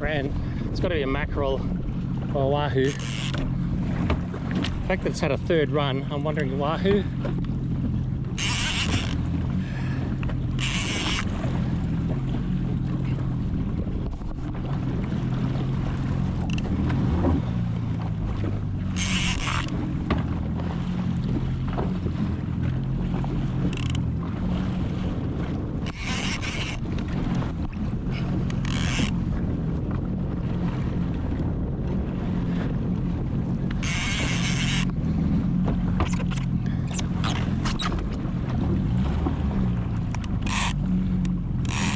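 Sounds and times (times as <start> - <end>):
jet ski engine running: 0.0 - 41.9.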